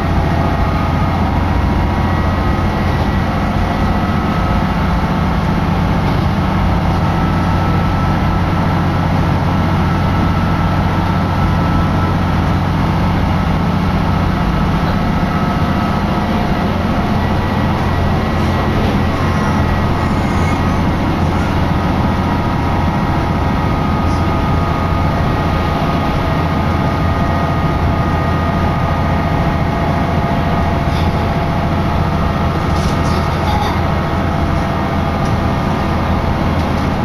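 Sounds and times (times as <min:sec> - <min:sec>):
railcar engine and wheels drone: 0:00.0 - 0:37.0.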